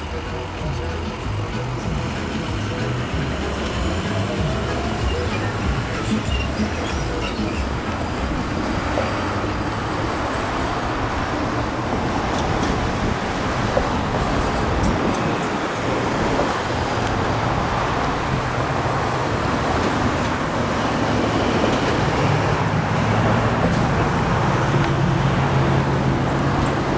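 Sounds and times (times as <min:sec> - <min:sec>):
low engine hum: 0:00.0 - 0:26.9
road traffic passing: 0:00.0 - 0:26.9.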